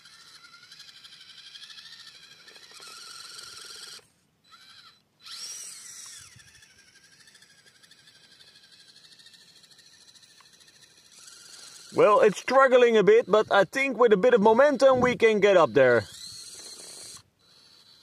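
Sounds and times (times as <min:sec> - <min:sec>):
toy car electric motor whine: 0:00.0 - 0:18.0.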